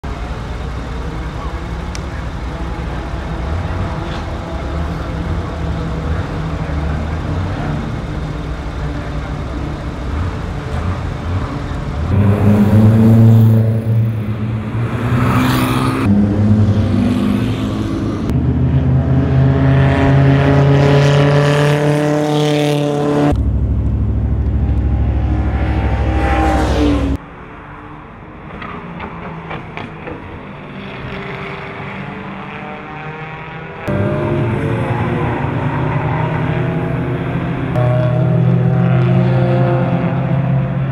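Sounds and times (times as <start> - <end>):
race car engines accelerating: 0.0 - 40.9
steady engine note: 0.1 - 15.3, 16.0 - 27.2, 33.9 - 40.8.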